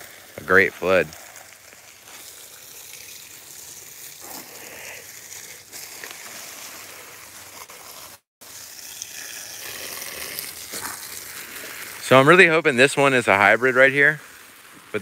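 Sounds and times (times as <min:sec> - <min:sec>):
water spraying from garden hose: 0:00.0 - 0:15.0.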